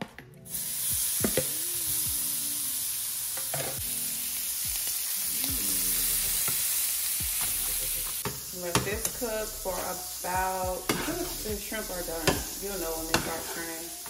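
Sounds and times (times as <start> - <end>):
shrimp sizzling in oil: 0.5 - 14.0.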